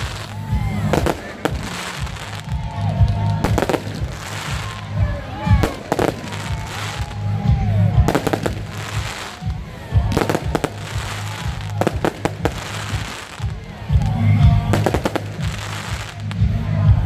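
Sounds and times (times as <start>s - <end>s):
fireworks bursting: 0.0s - 16.7s.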